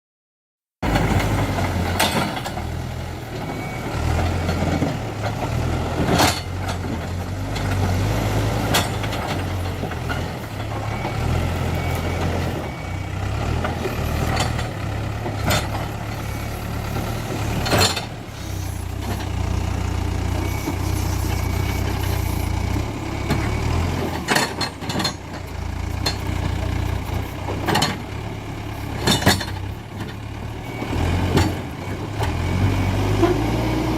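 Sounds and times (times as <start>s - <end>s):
diesel engine running: 0.8s - 33.9s.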